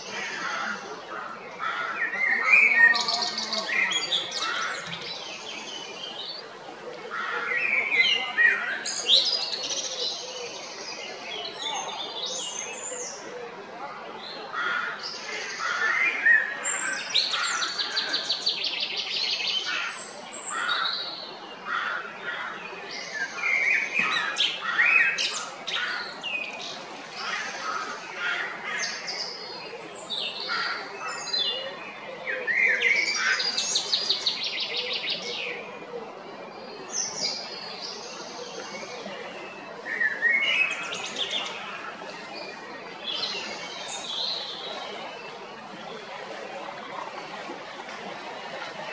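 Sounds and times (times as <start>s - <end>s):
songbirds singing: 0.0s - 13.5s, 14.2s - 48.9s.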